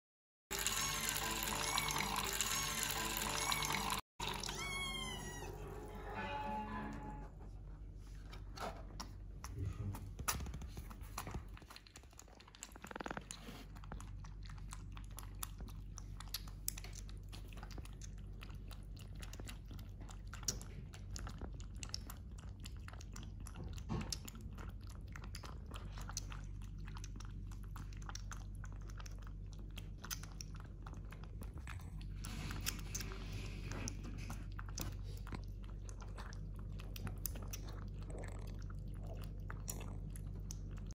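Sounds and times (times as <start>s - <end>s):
kitten chewing food: 8.1s - 40.9s.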